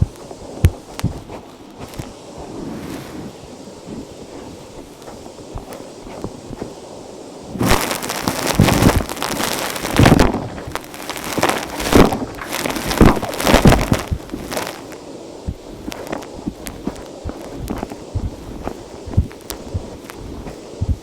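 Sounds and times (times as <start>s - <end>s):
crackling crunch of dirt: 0.0s - 21.0s.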